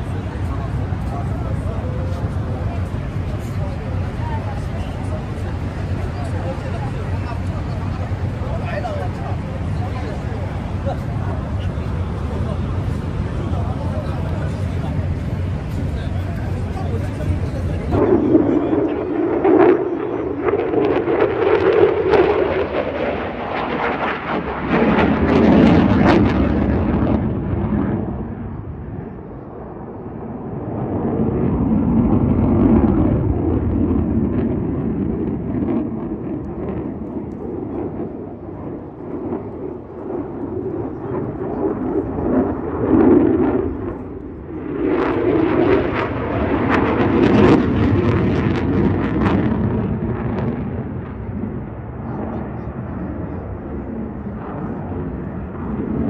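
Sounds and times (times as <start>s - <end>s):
fighter jet engine roar: 0.0s - 56.0s.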